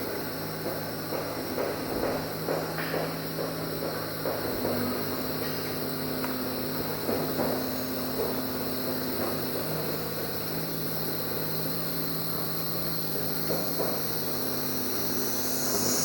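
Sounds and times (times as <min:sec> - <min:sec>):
distant engine drone: 0:00.0 - 0:16.0
insects humming: 0:00.0 - 0:16.0.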